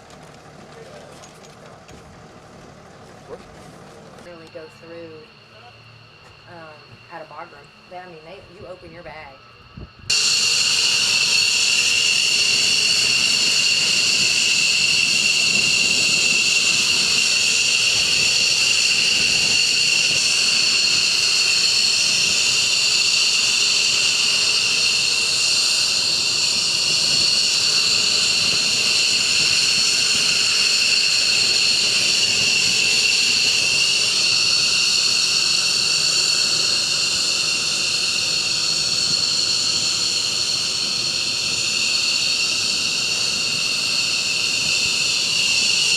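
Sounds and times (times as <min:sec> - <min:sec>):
jet engine turbine whine: 0:00.0 - 0:45.9.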